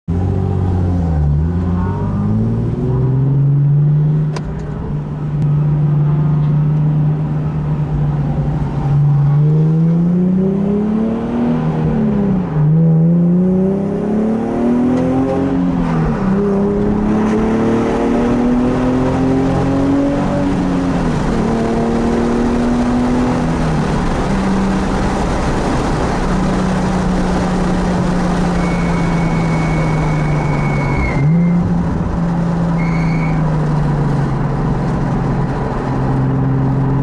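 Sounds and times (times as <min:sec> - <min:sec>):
car engine accelerating: 0:00.1 - 0:37.0.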